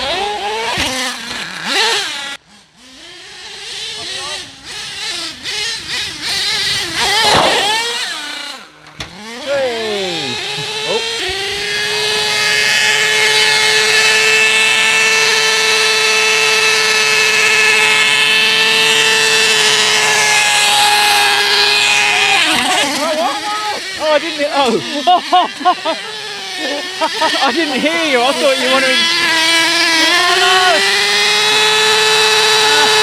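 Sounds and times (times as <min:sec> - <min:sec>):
rc truck engine revving: 0:00.0 - 0:33.0.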